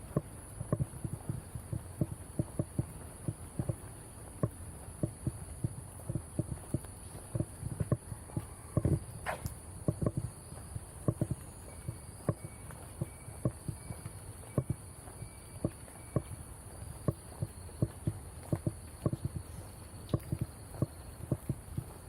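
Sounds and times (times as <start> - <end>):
footsteps on park path: 0.0 - 22.0
insects droning: 0.0 - 22.0.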